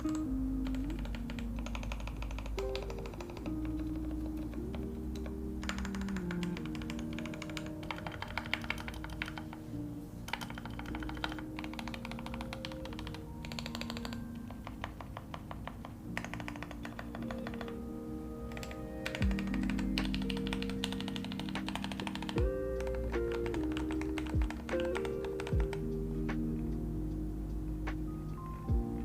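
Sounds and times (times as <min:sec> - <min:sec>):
mechanical keyboard typing: 0:00.0 - 0:09.6, 0:10.3 - 0:17.9, 0:18.5 - 0:25.9
lo-fi background music: 0:00.0 - 0:29.0.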